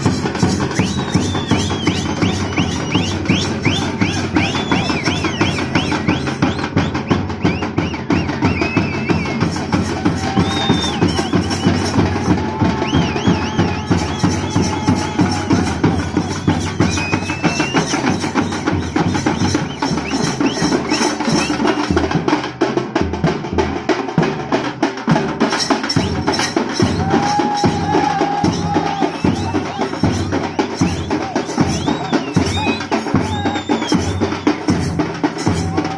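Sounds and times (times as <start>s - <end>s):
fast dense drumming: 0.0s - 35.9s.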